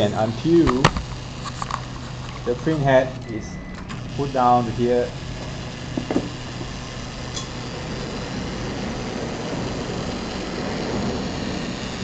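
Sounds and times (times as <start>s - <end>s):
stepper motors running: 0.0s - 12.0s.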